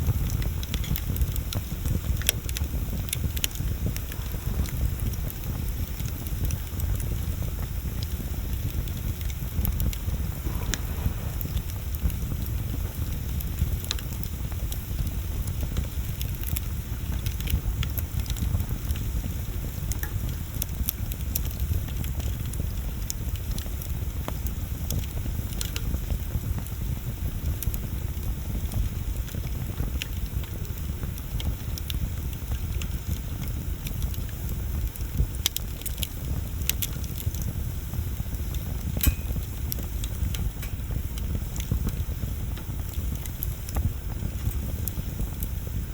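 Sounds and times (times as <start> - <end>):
bonfire crackling and popping: 0.0 - 45.9.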